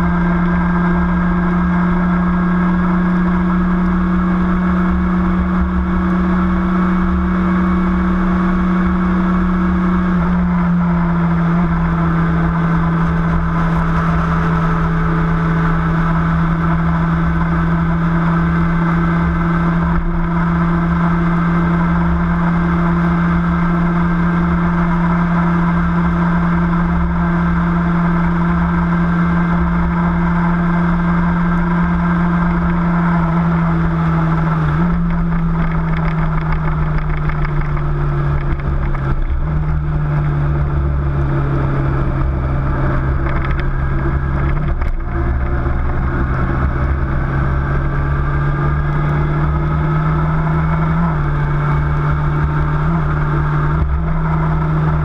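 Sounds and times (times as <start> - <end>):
low rumble of road noise: 0.0 - 55.0
vehicle engine running: 0.0 - 55.0.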